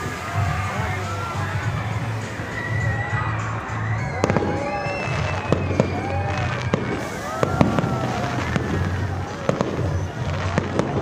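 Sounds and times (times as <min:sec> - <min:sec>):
fireworks shells bursting: 0:00.0 - 0:11.0.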